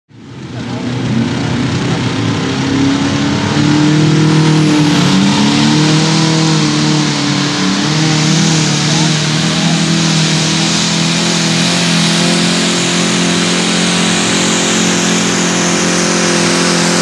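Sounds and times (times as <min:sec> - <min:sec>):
tractor engine revving hard: 0:00.1 - 0:17.0.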